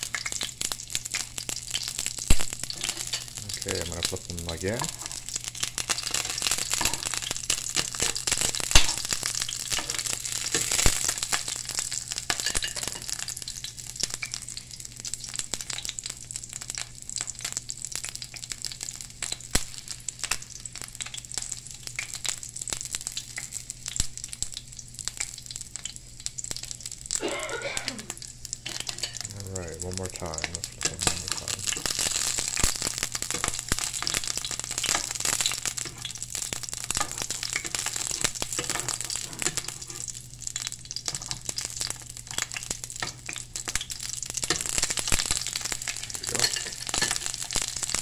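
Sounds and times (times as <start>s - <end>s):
frying sizzle in oil: 0.0s - 48.0s.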